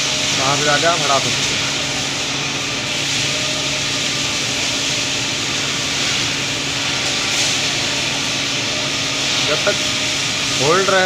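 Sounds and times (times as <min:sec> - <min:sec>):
machinery hiss and hum: 0:00.0 - 0:11.0.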